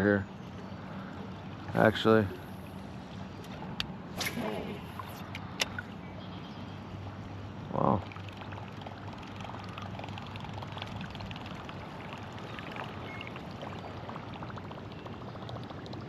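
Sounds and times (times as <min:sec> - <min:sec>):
small water splashes and lapping: 0:00.0 - 0:16.0
water and wind wash: 0:00.0 - 0:16.0.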